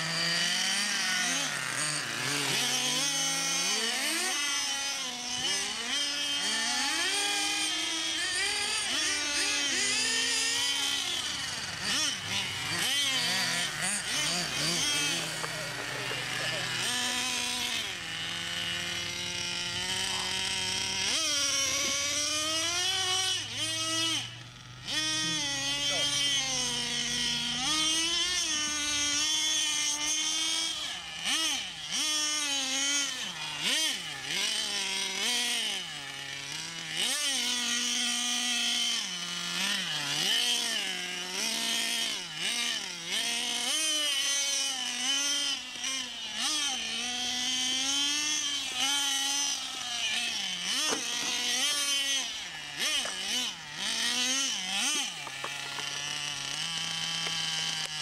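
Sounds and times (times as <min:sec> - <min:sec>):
model car engine revving: 0:00.0 - 0:58.0.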